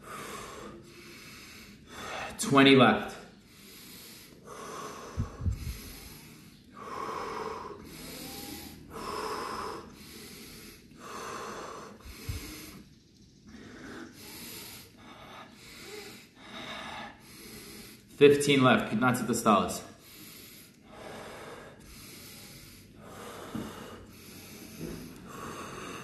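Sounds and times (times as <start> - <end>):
deep forceful mouth breathing: 0.0 - 18.2, 19.9 - 26.0.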